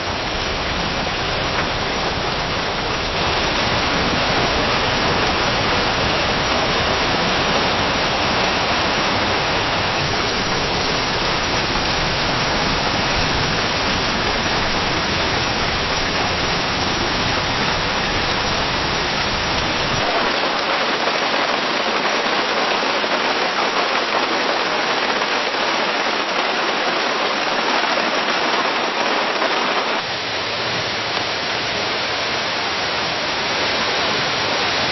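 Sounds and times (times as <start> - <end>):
steady rain in a forest: 0.0 - 34.9.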